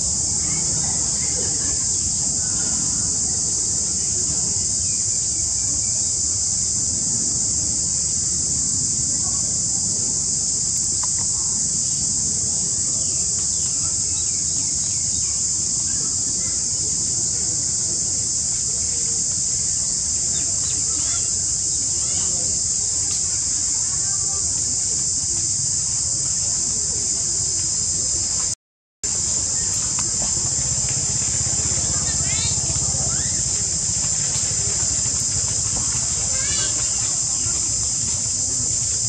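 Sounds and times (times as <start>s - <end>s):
insects buzzing: 0.0s - 39.0s.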